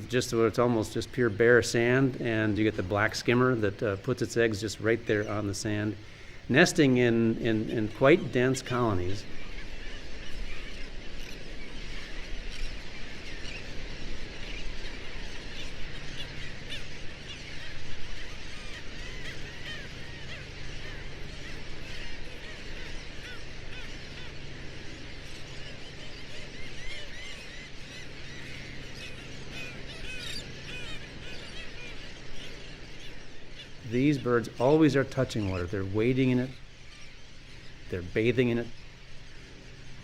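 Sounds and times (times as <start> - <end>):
seabird colony calling: 0.0 - 40.0.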